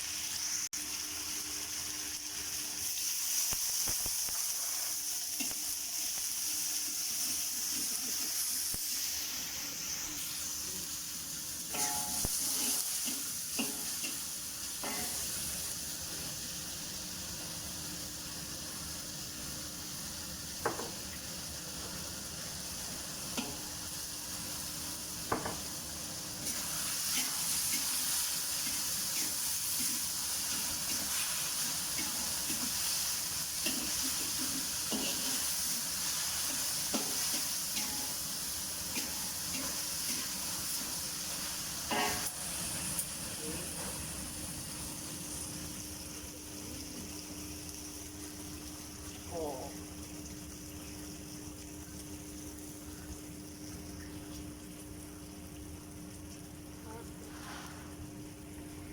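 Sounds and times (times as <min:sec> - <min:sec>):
stir-fry sizzling in a pan: 0:00.0 - 0:58.9.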